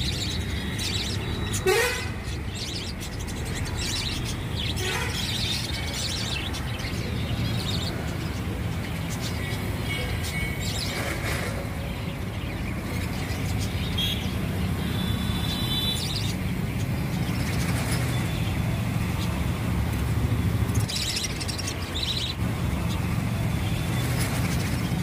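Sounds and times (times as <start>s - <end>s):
caged birds chirping: 0.0s - 25.0s.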